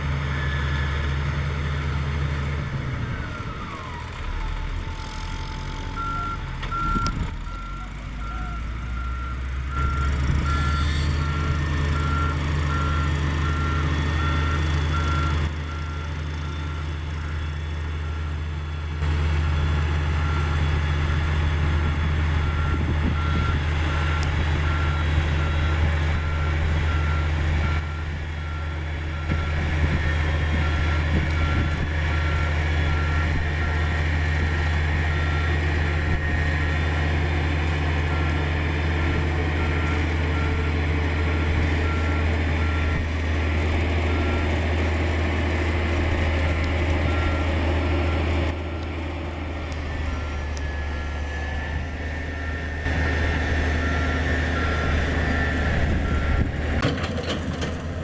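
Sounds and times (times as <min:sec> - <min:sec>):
diesel engine: 0:00.0 - 0:58.0
back-up alarm beeping: 0:03.2 - 0:48.5, 0:49.5 - 0:56.8.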